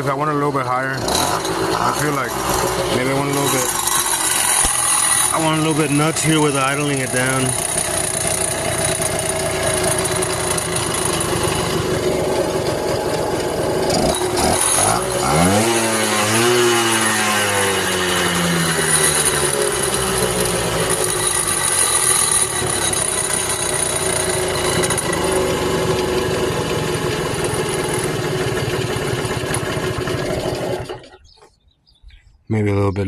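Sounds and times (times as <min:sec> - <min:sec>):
two-stroke engine idling and revving: 0:00.0 - 0:31.2.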